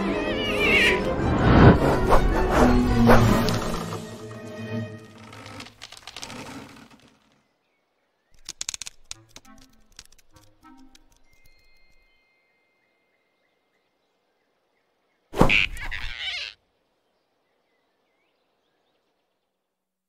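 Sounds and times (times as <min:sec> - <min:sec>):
faint forest ambience: 0:02.9 - 0:20.0.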